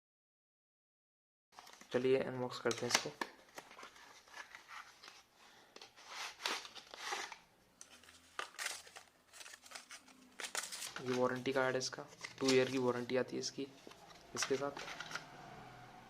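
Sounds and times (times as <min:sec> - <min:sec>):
packaging rustling and crinkling: 0:01.6 - 0:02.0, 0:02.7 - 0:15.3.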